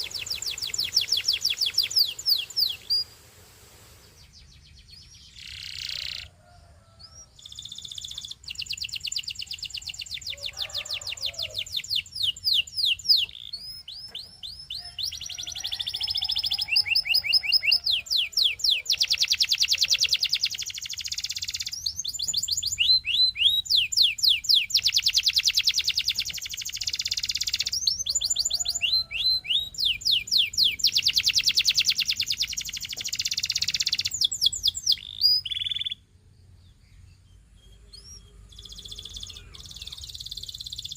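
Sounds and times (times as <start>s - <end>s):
canary singing trills: 0.0s - 3.2s, 4.1s - 40.9s.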